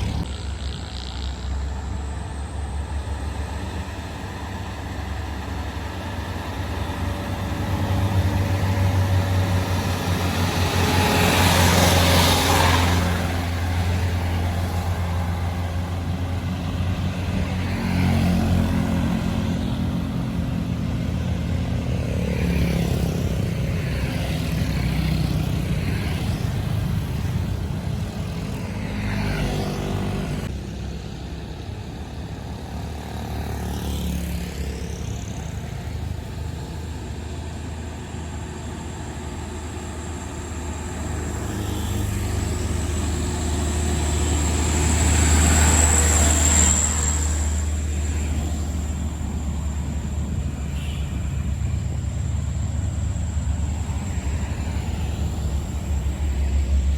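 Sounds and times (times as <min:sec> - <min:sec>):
truck engine running under load: 0:00.0 - 0:56.9
vehicles passing: 0:00.0 - 0:56.9.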